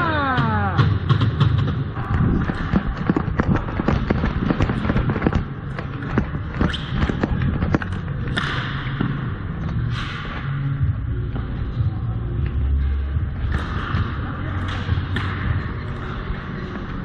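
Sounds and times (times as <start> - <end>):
hockey sticks clacking on ball: 0.3 - 11.6, 12.4 - 17.0.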